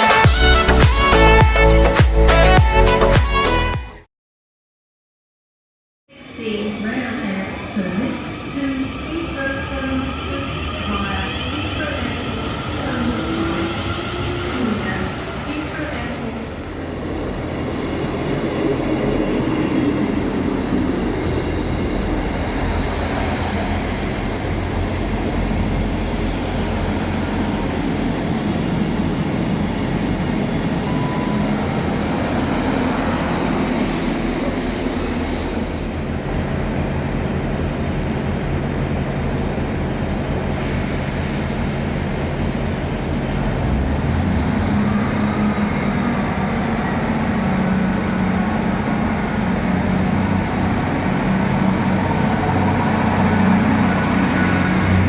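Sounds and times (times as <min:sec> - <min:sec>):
train rumbling on rails: 0:06.1 - 0:55.0.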